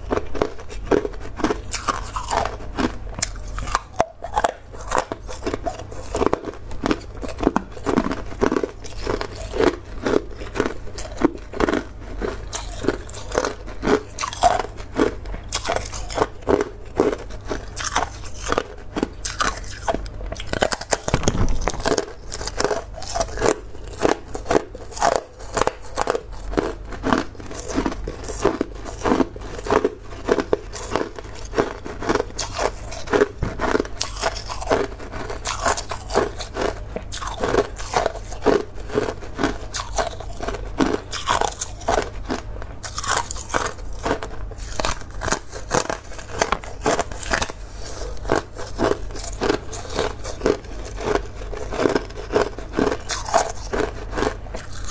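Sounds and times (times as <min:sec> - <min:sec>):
ice crunching while chewed: 0:00.0 - 0:54.9.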